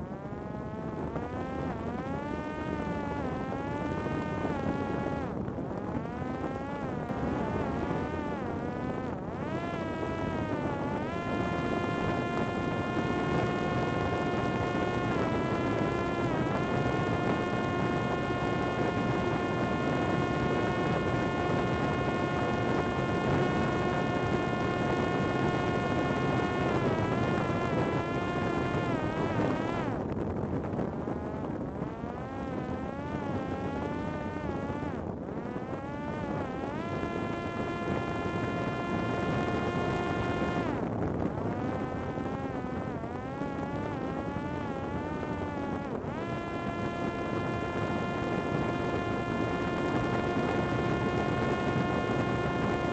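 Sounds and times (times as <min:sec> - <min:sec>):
drone propeller whining: 0:00.0 - 0:52.9.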